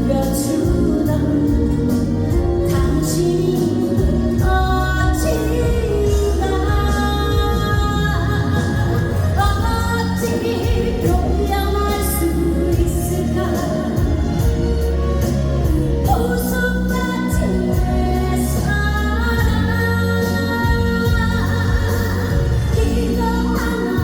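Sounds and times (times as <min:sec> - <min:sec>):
backing track with bass line: 0:00.0 - 0:24.0
woman singing: 0:00.0 - 0:24.0.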